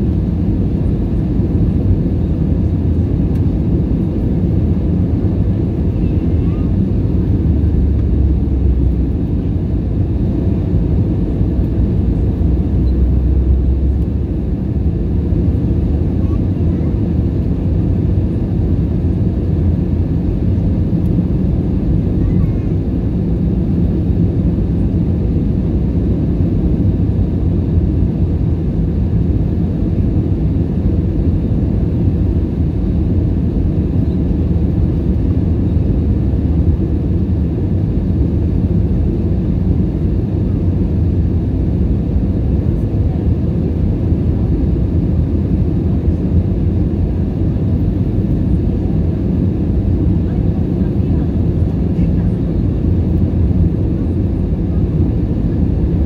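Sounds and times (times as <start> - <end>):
aircraft engines low rumble: 0.0 - 56.0
airflow past aircraft: 0.0 - 56.0.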